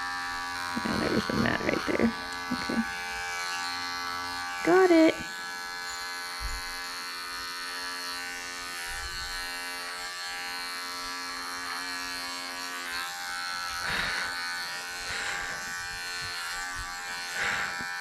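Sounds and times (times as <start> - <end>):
electric pet clippers buzzing: 0.0 - 18.0.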